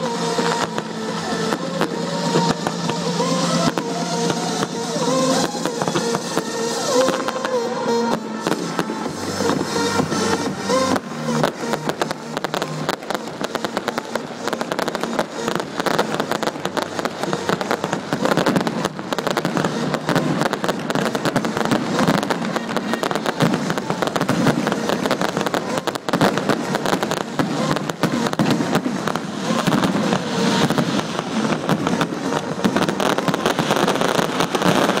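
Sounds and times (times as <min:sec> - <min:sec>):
fireworks bursting with crackling: 0:00.0 - 0:35.0.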